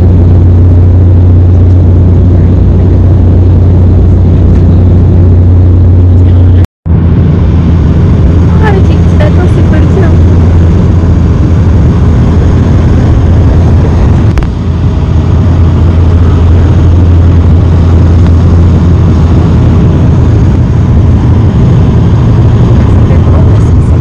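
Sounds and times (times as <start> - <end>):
propeller engines droning: 0.0 - 24.0.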